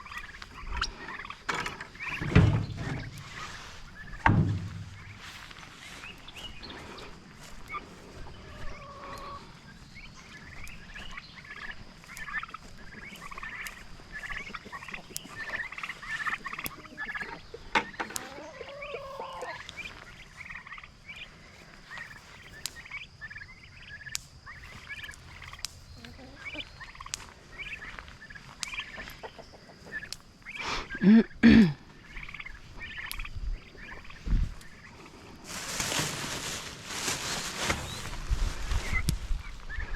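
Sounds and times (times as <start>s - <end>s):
turkeys calling: 0.0s - 39.9s.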